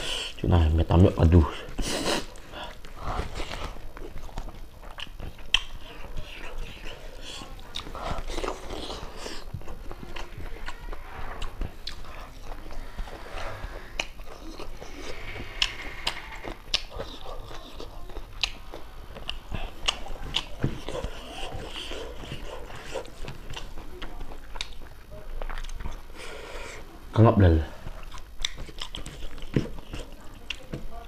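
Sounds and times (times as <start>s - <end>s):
person chewing with mouth smacks: 1.4s - 26.9s, 27.8s - 31.0s.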